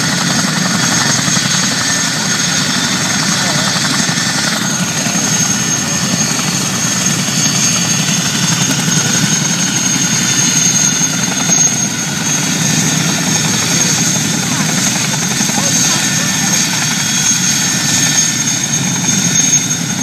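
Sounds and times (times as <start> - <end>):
helicopter rotor noise: 0.0 - 20.0
high turbine whine: 0.0 - 20.0.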